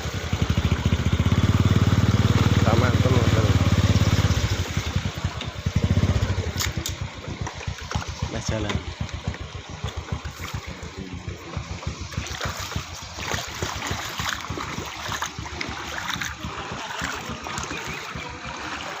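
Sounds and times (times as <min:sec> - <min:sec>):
floodwater flowing and splashing: 0:00.0 - 0:19.0
fast low throbbing: 0:00.2 - 0:19.0.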